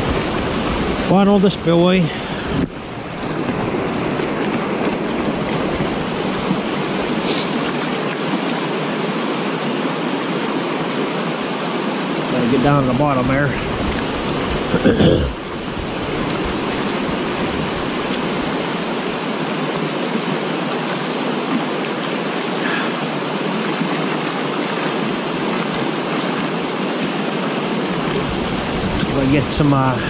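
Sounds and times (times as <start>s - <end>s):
water rushing over a spillway: 0.0s - 30.0s.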